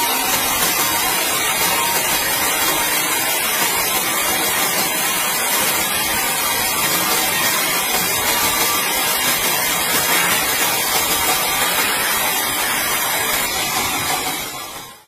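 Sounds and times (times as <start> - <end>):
sawmill saw cutting timber: 0.0 - 15.0.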